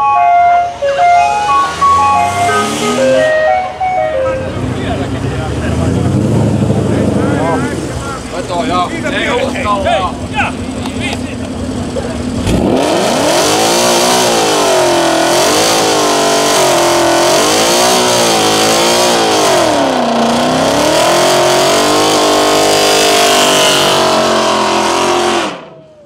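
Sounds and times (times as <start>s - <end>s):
car engine at high revs: 0.9s - 26.0s.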